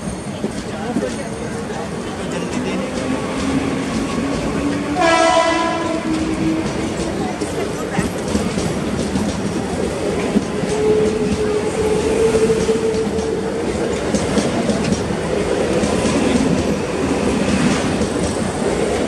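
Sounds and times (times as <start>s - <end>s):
train wheels clicking: 0.0s - 19.0s
train whine: 0.0s - 19.0s.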